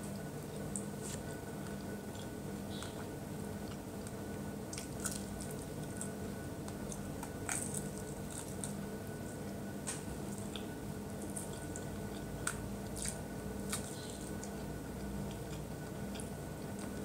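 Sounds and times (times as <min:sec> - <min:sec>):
person chewing fried chicken: 0:00.0 - 0:17.0
steady low hum: 0:00.0 - 0:17.0.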